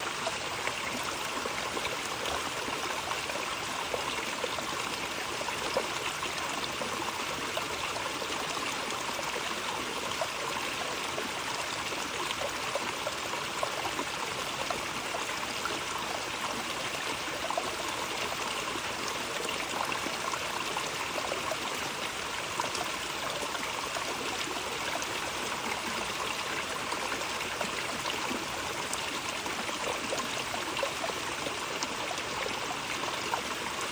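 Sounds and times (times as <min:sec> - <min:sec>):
running water trickling and splashing: 0:00.0 - 0:33.9.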